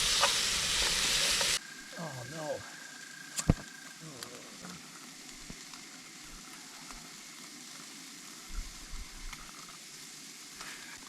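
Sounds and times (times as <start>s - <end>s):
food sizzling in a pan: 0.0s - 3.0s, 3.7s - 11.0s.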